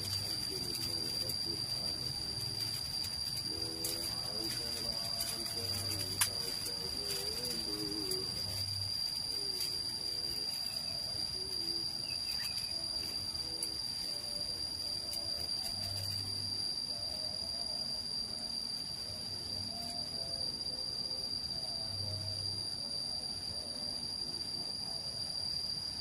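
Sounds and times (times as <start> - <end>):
faint wavering lower calls: 0.0 - 25.1
insects trilling: 0.0 - 26.0.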